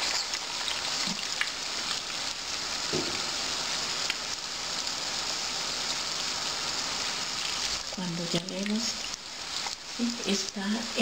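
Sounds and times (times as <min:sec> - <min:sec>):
fritters sizzling in hot oil: 0:00.0 - 0:11.0.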